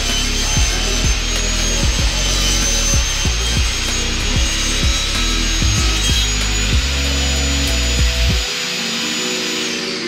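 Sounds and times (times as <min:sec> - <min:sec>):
background music with bass: 0:00.0 - 0:08.5
table saw cutting board: 0:00.0 - 0:10.0.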